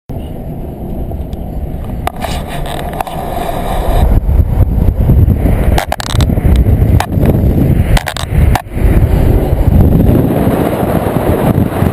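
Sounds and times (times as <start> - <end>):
car road and wind rumble: 0.1 - 11.9.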